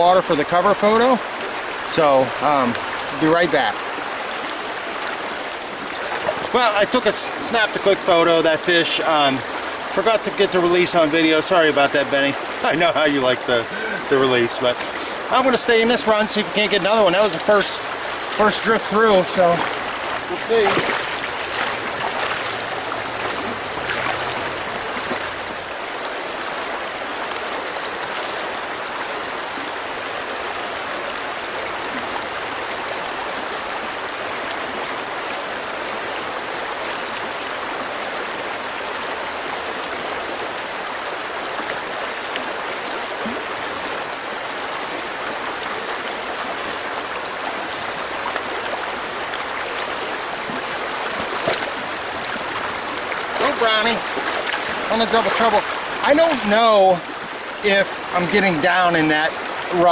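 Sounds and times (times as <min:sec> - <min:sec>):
stream water rushing over rocks: 0:00.0 - 0:59.9.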